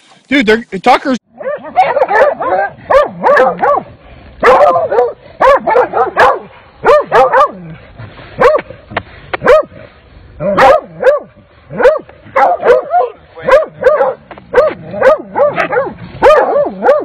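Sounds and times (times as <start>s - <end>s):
dogs barking and yelping: 1.3s - 7.8s, 8.4s - 8.7s, 9.4s - 9.8s, 10.4s - 17.0s.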